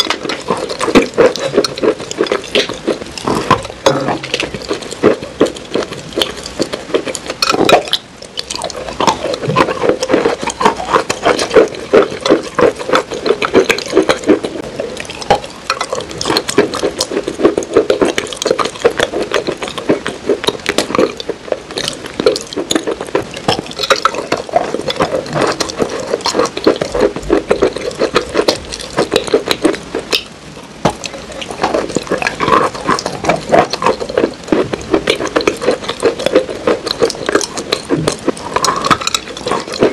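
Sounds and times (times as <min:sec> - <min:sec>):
chewing crunchy dessert: 0:00.0 - 0:39.9
wet mouth clicks: 0:00.0 - 0:39.9.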